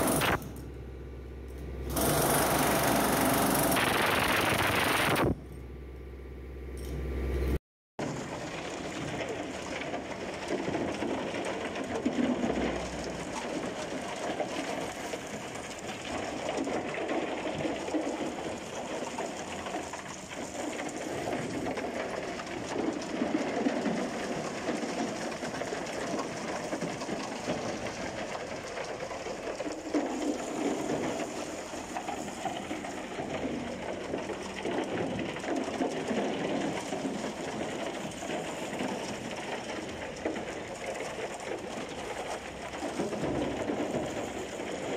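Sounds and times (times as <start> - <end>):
concrete rubble clattering down chute: 8.0 - 44.9.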